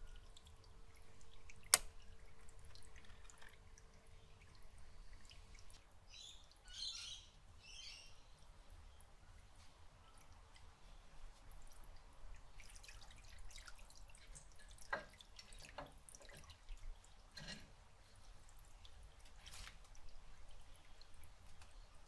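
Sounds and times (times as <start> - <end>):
water trickling over rock: 0.0 - 7.4, 8.1 - 22.0
water drips and plinks: 0.0 - 22.0.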